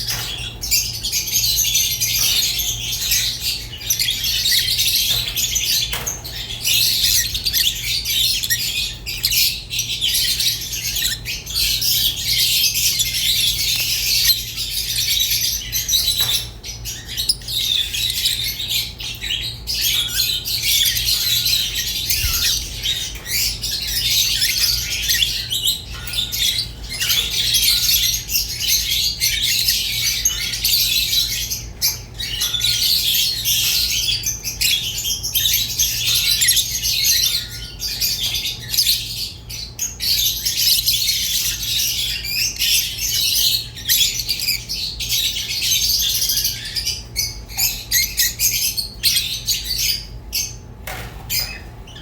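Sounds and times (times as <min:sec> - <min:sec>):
lovebirds chattering: 0:00.0 - 0:52.0.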